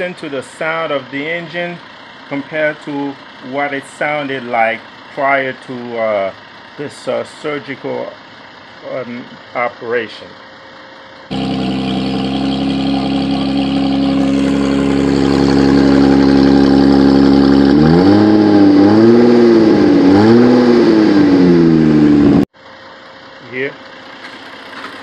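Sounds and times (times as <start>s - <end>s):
car engine with loud exhaust revving: 0.0s - 25.0s.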